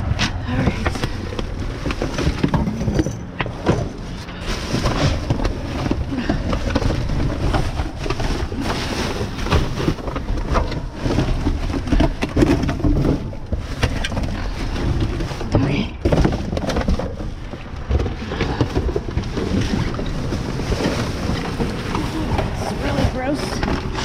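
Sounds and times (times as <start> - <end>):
objects knocking and clattering: 0.0 - 24.0
plastic bags and trash rustling: 0.0 - 24.0.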